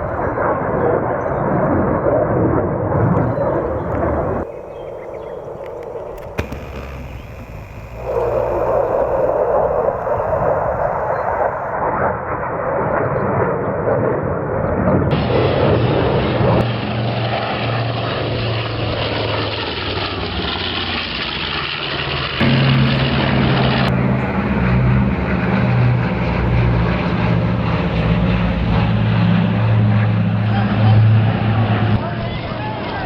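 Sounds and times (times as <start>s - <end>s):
propeller airplane engine droning: 0.0s - 33.0s.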